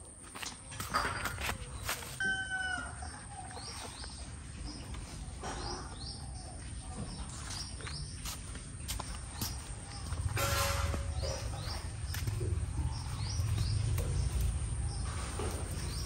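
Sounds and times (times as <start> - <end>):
small birds chirping: 2.8 - 16.0.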